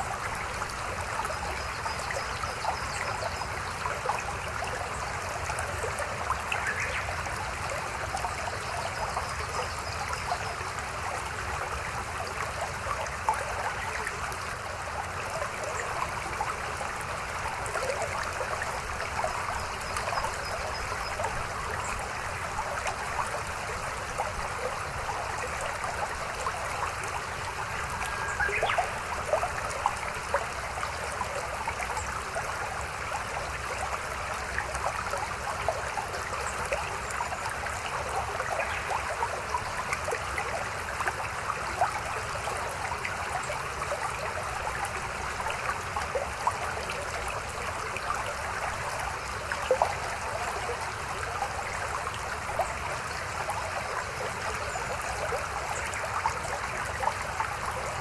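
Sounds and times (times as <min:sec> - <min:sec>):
small river babbling: 0:00.0 - 0:58.0.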